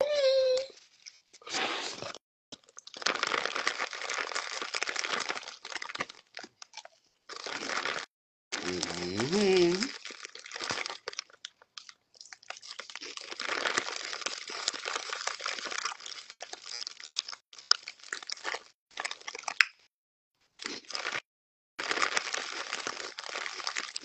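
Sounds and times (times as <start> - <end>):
chips being chewed: 1.6 - 19.9, 20.6 - 21.2, 21.8 - 24.0
chip bag crinkling: 2.6 - 19.6, 20.6 - 21.2, 21.8 - 24.0.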